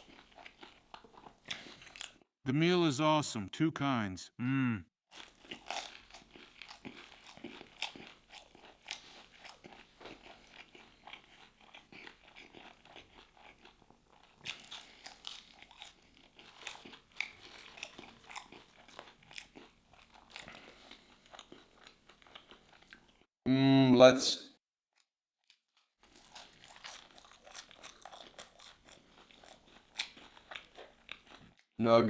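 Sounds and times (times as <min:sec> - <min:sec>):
person chewing crunchy food: 0:00.0 - 0:02.3, 0:05.1 - 0:23.3, 0:25.0 - 0:31.7.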